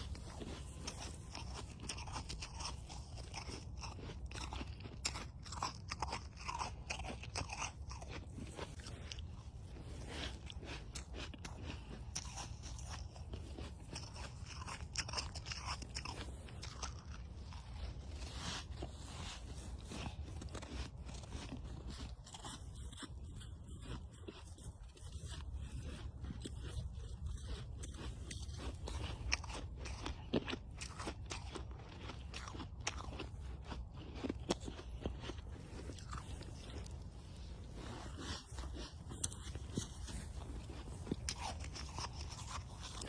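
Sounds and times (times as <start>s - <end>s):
person chewing crunchy snow: 0.0s - 43.0s.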